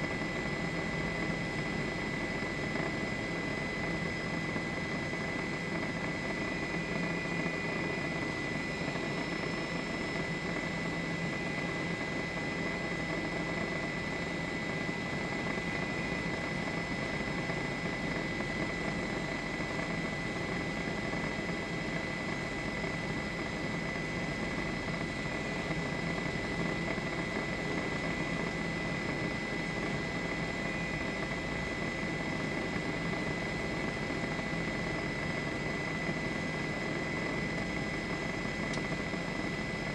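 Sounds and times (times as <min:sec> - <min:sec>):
helicopter engine and rotor: 0:00.0 - 0:39.9
high steady whine: 0:00.0 - 0:39.9.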